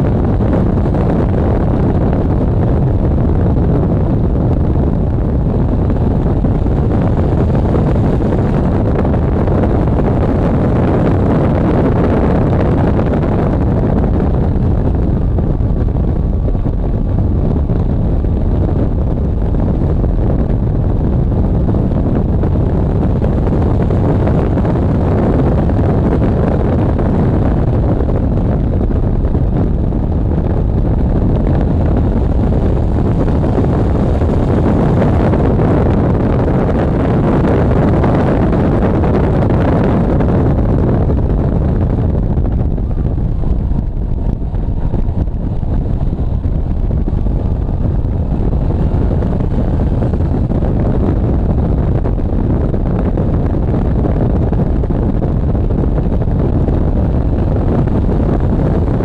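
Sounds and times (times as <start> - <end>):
car engine rumble: 0.0 - 59.0
wind buffeting: 0.0 - 59.0.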